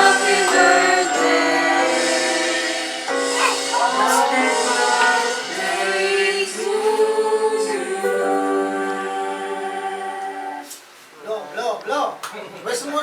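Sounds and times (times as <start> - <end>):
choir singing held notes: 0.0 - 10.7.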